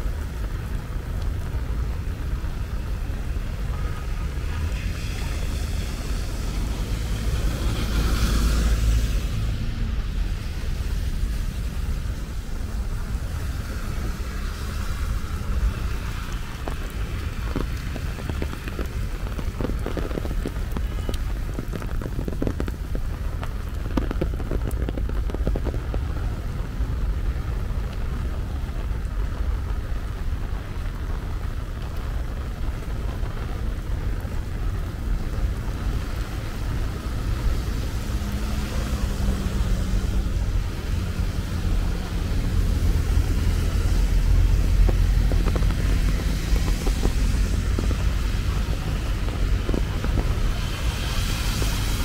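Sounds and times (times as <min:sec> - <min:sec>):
constant low rumble: 0:00.0 - 0:52.0
steady rain falling: 0:00.0 - 0:52.0.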